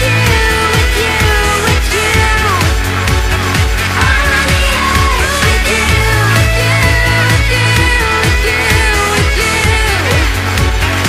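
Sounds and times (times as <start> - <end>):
electronic dance music: 0.0 - 11.0
kick drum beat: 0.0 - 11.0.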